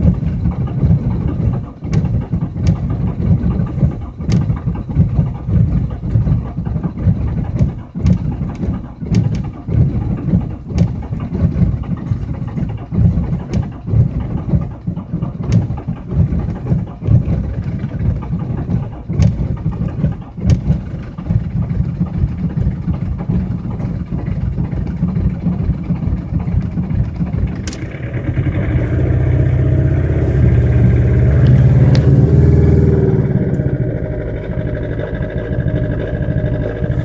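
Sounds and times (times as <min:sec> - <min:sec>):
old car engine running unevenly: 0:00.0 - 0:37.0
sharp engine clicks: 0:00.0 - 0:37.0.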